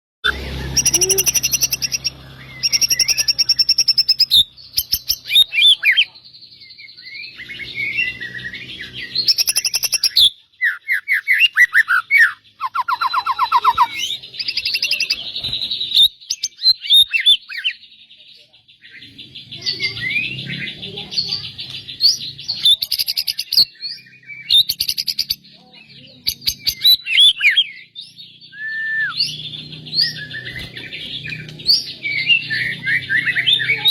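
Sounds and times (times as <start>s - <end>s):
songbird singing: 0.2s - 33.9s.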